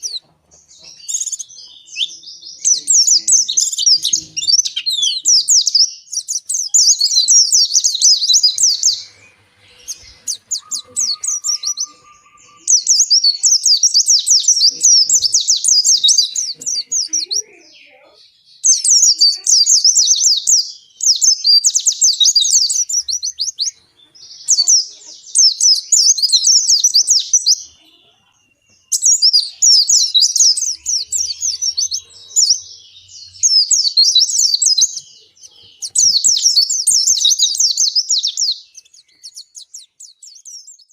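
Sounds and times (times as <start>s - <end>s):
white-eye bird twittering song: 0.0s - 40.9s.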